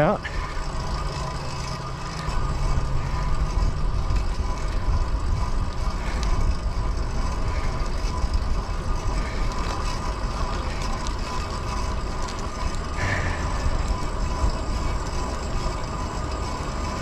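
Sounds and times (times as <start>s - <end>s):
bicycle tyres rolling on pavement: 0.0s - 17.0s
wind buffeting microphone: 0.4s - 17.0s.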